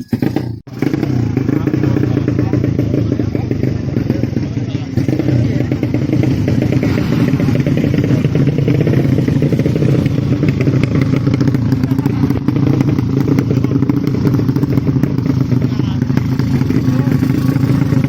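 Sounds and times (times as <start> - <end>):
motorcycle engine fast idle: 0.2 - 18.0.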